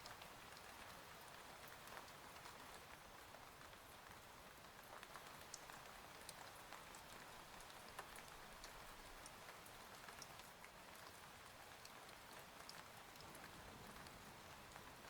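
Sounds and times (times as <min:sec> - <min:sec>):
faint steady rain: 0:00.0 - 0:15.0
small raindrop ticks: 0:00.0 - 0:15.0.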